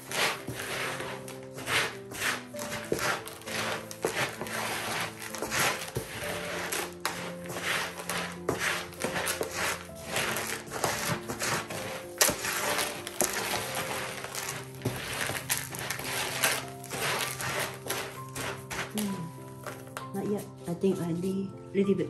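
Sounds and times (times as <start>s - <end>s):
gritty soil stirred in plastic tub: 0.0s - 21.4s
soft background music: 0.0s - 22.0s.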